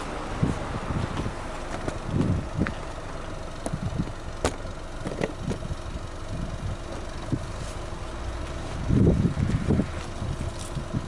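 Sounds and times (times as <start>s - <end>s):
car engine idling: 0.0s - 11.0s
uneven low exhaust rumble: 0.0s - 11.0s.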